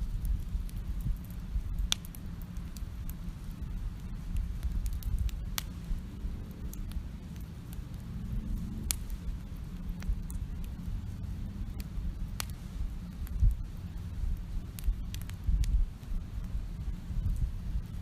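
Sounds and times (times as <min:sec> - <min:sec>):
low steady rumble: 0:00.0 - 0:18.0
wood crackling and popping: 0:00.0 - 0:18.0.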